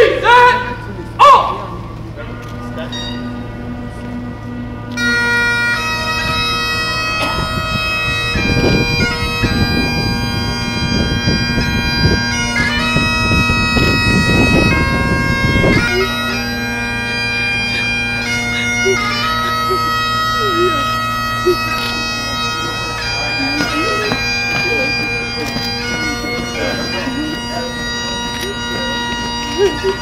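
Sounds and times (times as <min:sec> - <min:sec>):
bagpipes playing a melody: 0:02.3 - 0:30.0
low rumbling: 0:03.1 - 0:28.3.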